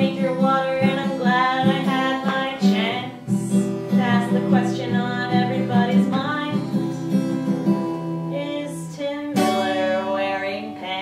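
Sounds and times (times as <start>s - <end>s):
acoustic guitar strumming: 0.0s - 11.0s
woman singing: 0.0s - 11.0s.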